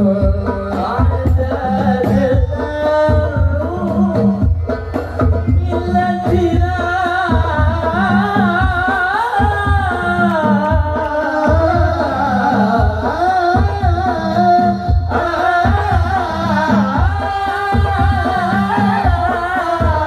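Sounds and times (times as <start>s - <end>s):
low drum beat: 0.0s - 20.0s
men singing devotional song: 0.0s - 20.0s.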